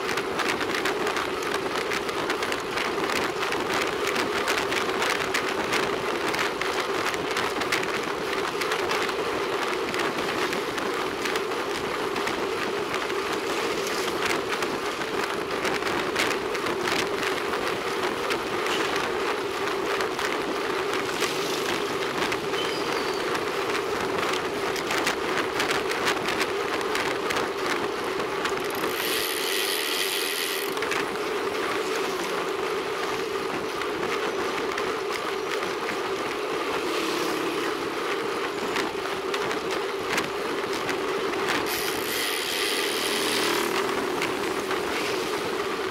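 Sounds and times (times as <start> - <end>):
constant hum: 0.0 - 45.9
road and wind noise: 0.0 - 45.9.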